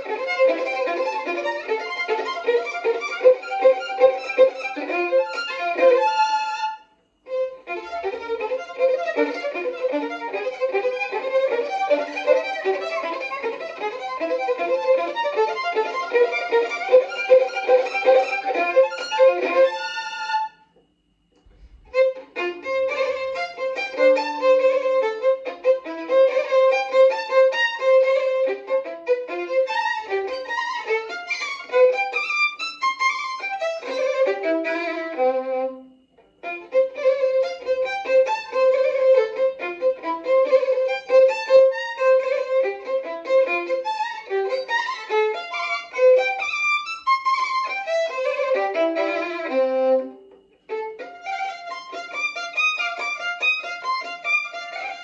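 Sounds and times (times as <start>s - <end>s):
solo violin playing fast: 0.0s - 20.6s, 21.5s - 55.0s.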